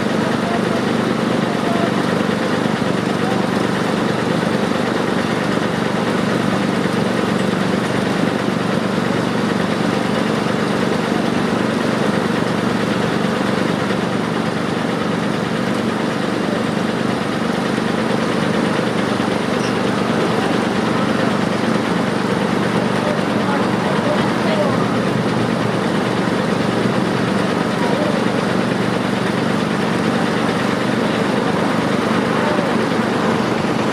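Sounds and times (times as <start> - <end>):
construction machine engine idling: 0.0 - 33.9.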